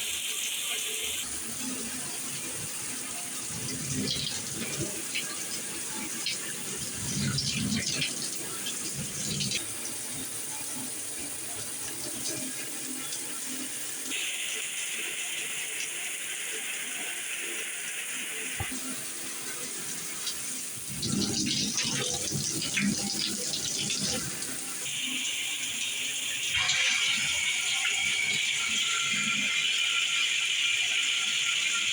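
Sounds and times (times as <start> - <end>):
water spraying from showerhead: 1.5 - 31.9.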